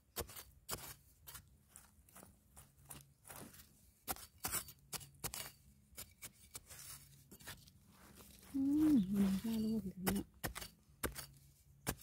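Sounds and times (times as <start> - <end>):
spade digging into stony soil: 0.0 - 1.9, 2.9 - 12.0.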